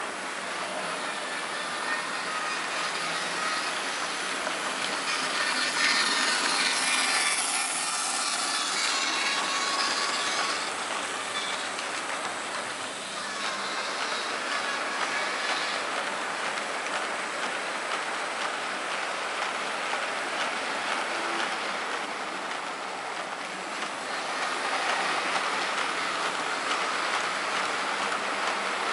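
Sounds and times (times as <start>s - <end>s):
model train wheels clattering on track: 0.1s - 28.9s.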